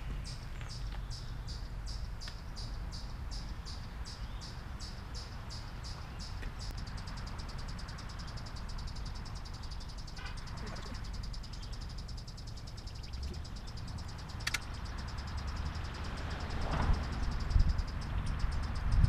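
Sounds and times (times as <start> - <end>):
songbird chirping and trilling: 0.0 - 19.0.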